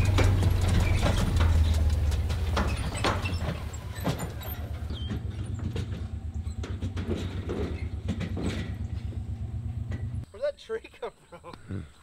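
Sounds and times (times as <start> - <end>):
trailer knocking and rattling: 0.0 - 10.2
truck engine hum: 0.0 - 10.2.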